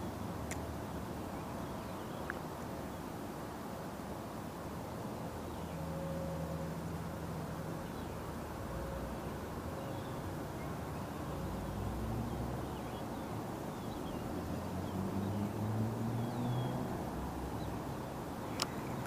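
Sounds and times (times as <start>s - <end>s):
river water: 0.0s - 19.0s
wind: 0.0s - 19.0s.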